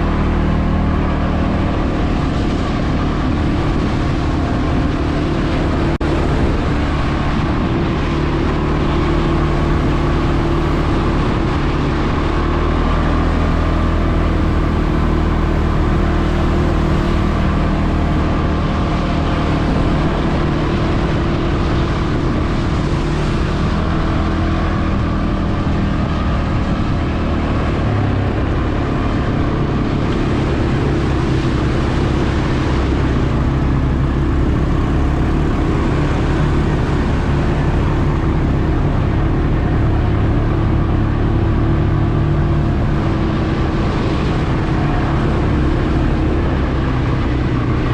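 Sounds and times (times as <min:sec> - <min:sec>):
atv engine running: 0:00.0 - 0:47.9
road and wind noise: 0:00.0 - 0:47.9.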